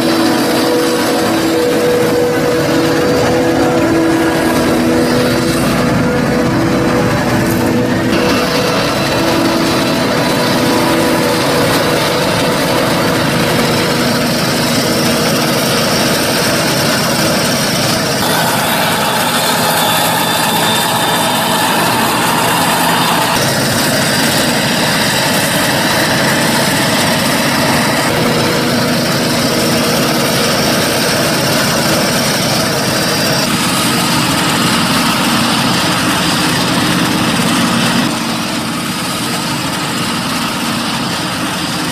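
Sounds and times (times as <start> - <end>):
high machine whine: 0.0 - 41.9
loud engine drone: 0.0 - 41.9.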